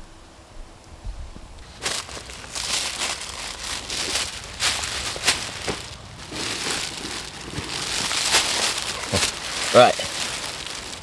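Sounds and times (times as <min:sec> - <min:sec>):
bedding crinkling and rustling: 0:01.6 - 0:11.0.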